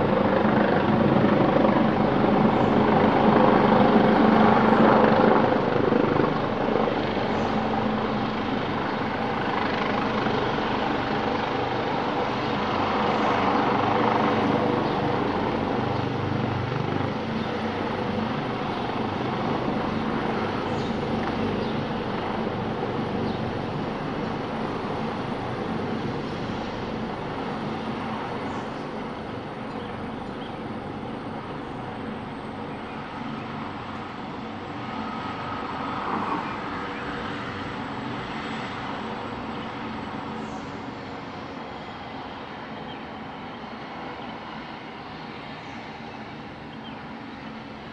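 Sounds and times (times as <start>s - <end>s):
faint turbine whine: 0.0s - 47.9s
helicopter engine and rotor: 0.0s - 47.9s.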